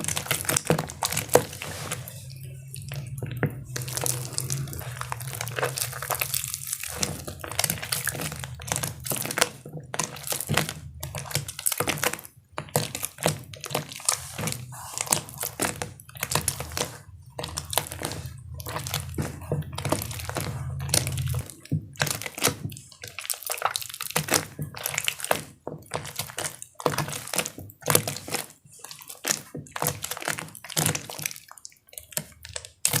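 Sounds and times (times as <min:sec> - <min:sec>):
wet chalk crunching and crumbling: 0:00.0 - 0:33.0.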